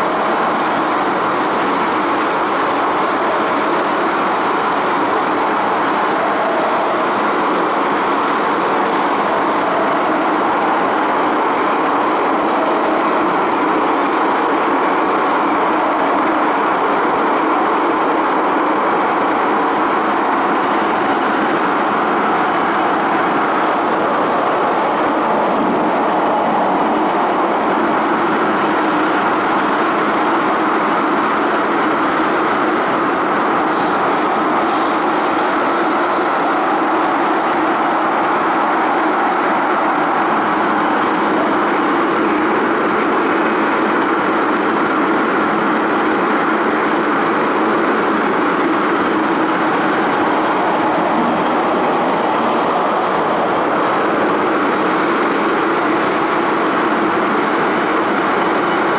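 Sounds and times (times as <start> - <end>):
train wheels roaring on rail: 0.0 - 58.9.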